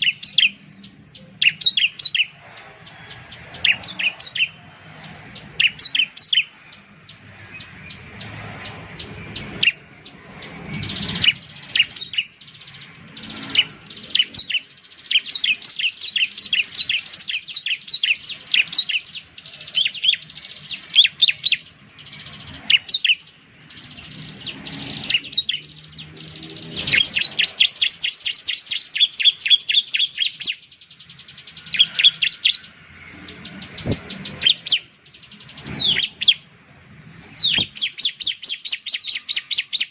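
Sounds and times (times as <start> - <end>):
bird high-pitched chirps: 0.0 - 36.6, 37.2 - 39.9.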